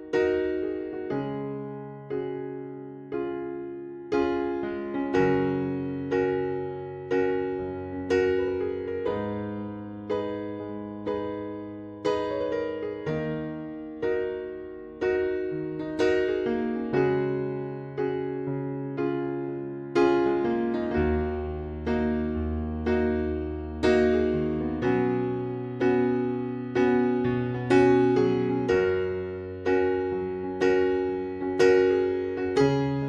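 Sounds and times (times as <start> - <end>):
gentle piano chords: 0.0 - 33.0.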